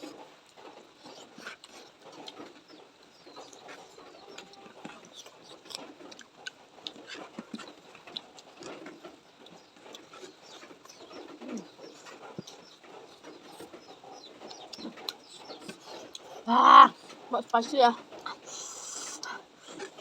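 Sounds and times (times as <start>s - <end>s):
chewing and lip smacks: 0.0s - 17.2s.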